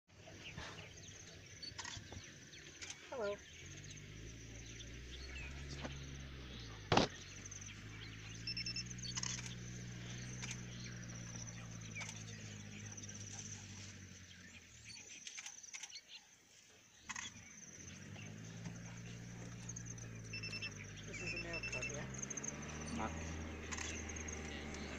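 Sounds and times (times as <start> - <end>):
car engine running low: 0.1 - 15.9, 16.6 - 24.9
faint high chirping: 0.3 - 16.1, 17.0 - 24.9.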